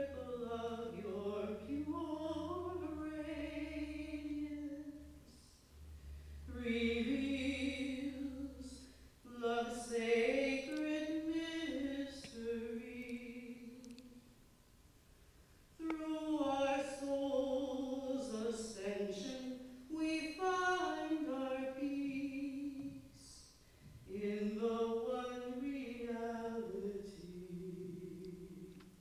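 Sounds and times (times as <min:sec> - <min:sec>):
woman singing unaccompanied: 0:00.0 - 0:05.6, 0:06.5 - 0:14.2, 0:15.8 - 0:29.0.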